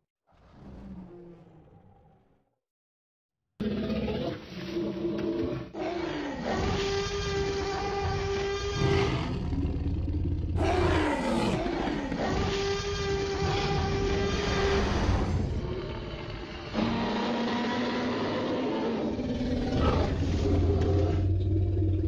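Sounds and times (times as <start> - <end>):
dinosaur roars: 0.3 - 2.6, 3.6 - 22.0.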